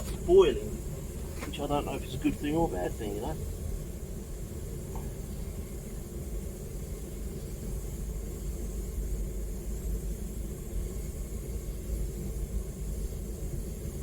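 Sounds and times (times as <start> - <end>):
propane burner roaring: 0.0 - 14.0.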